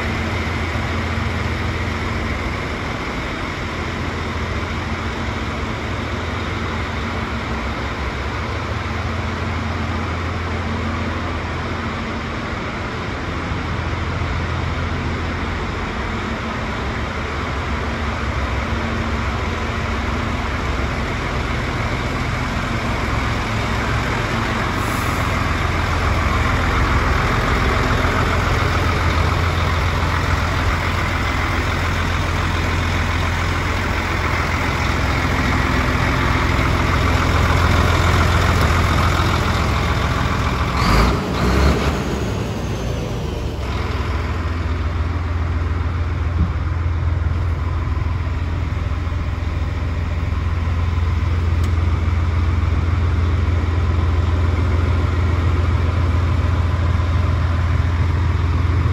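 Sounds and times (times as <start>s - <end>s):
diesel truck engine idling: 0.0s - 58.9s.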